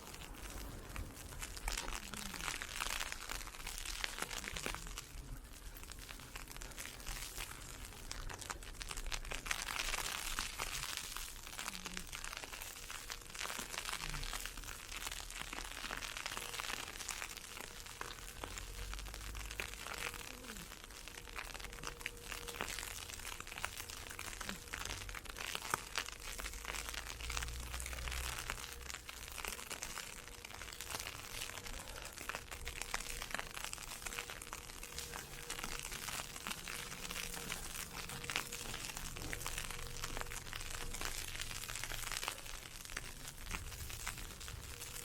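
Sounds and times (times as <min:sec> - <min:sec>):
ice pellets ticking: 0:00.0 - 0:45.0.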